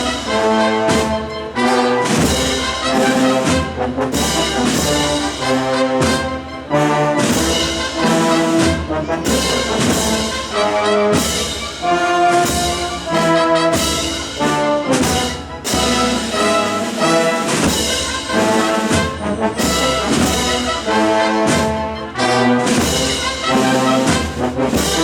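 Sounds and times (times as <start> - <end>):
marching band playing slow march: 0.0 - 25.0.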